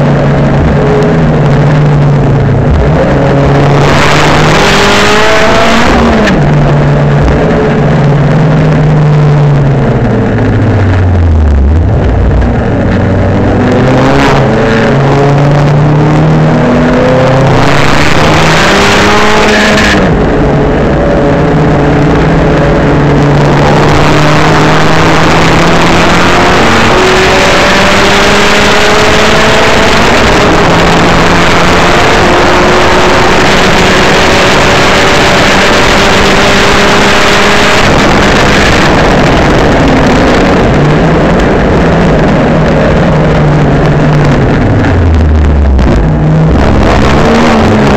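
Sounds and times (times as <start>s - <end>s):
car engine revving hard: 0.0s - 47.9s
loud rushing noise: 0.0s - 47.9s.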